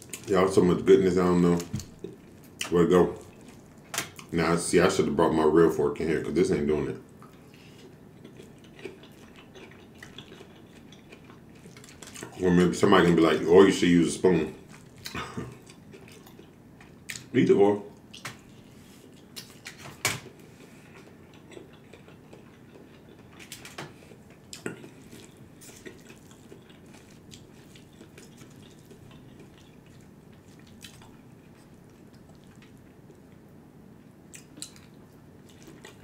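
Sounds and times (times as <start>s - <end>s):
man chewing wetly: 1.5s - 4.3s, 7.1s - 12.4s, 14.6s - 17.3s, 17.9s - 36.0s.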